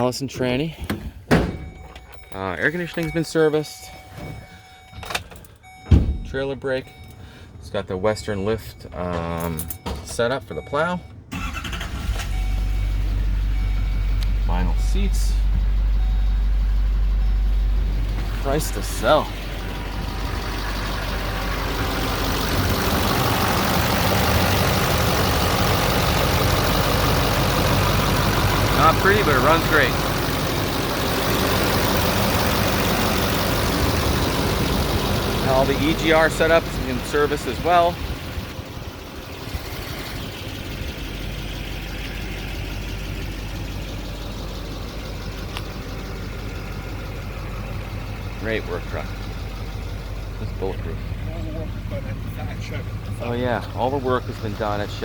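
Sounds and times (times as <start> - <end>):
diesel truck engine idling: 9.8 - 55.0.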